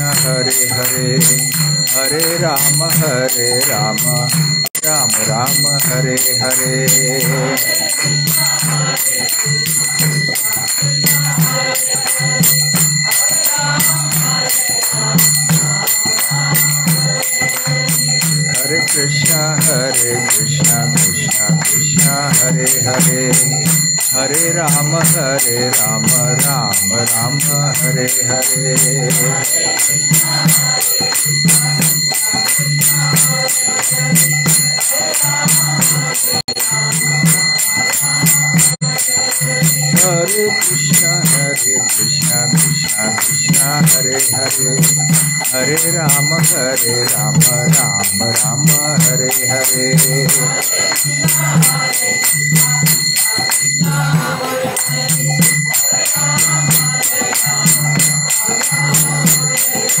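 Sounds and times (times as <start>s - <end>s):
small hand cymbals ringing: 0.0s - 60.0s.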